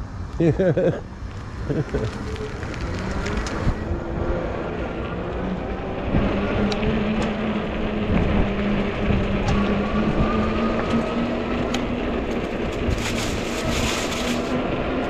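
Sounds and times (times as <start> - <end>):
tyres rolling on pavement: 0.4 - 15.0
wind on microphone: 1.5 - 15.0.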